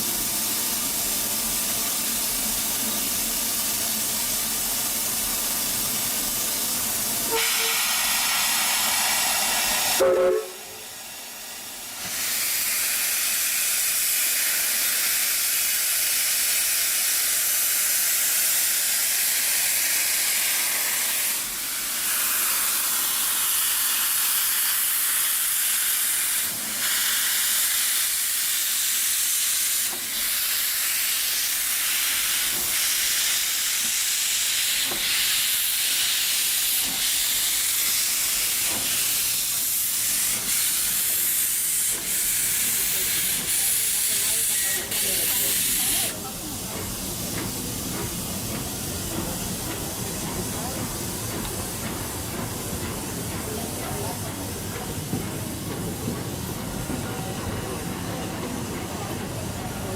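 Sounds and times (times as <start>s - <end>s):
steam hissing: 0.0s - 59.9s.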